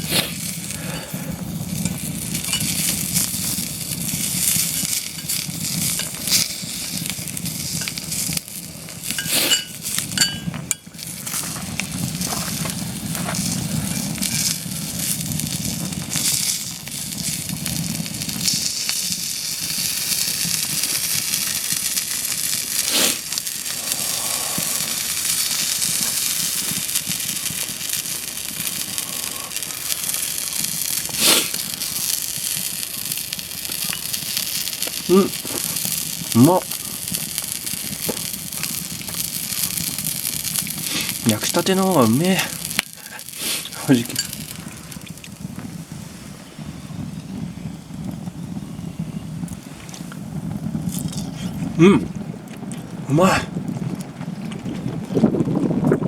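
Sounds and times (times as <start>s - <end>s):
campfire crackling: 0.0s - 56.0s
hot dog sizzling in skillet: 0.0s - 56.0s.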